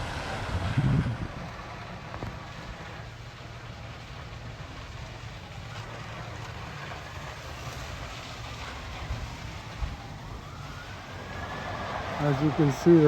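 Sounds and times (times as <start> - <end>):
heavy vehicle engines idling: 0.0 - 13.0.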